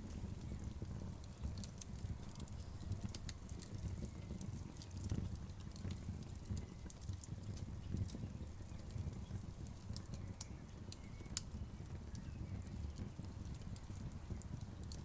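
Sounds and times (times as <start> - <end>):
logs crackling and popping: 0.0 - 15.0
rumble of flames: 0.0 - 15.0.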